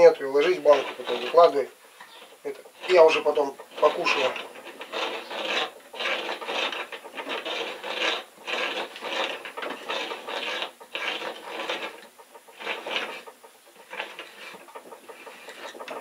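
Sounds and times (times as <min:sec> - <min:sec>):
rasping metal scrape: 0:00.0 - 0:16.0.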